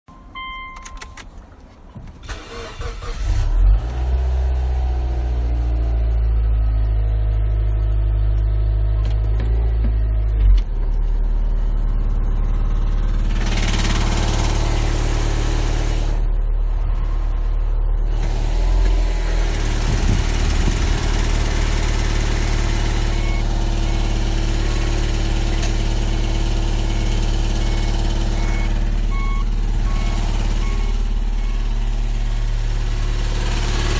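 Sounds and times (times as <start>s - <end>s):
car engine starting and idling: 0.2s - 33.9s.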